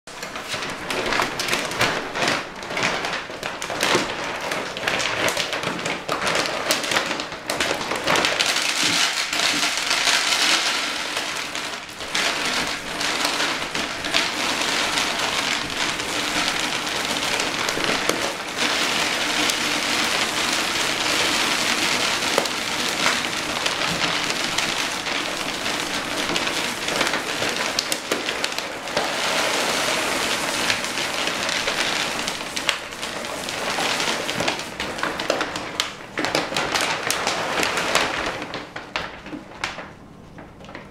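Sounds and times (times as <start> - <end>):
kibble pouring into plastic bin: 0.1 - 40.0
bag crinkling: 0.1 - 40.9.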